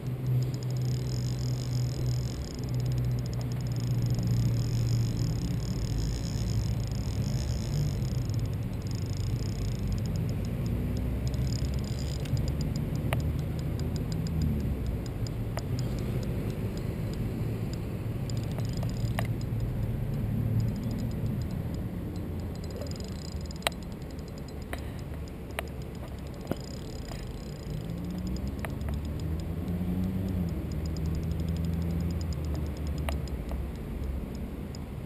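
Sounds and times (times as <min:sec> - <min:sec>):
fishing reel ticking: 0:00.0 - 0:35.0
sharp reel clicks: 0:00.0 - 0:35.0.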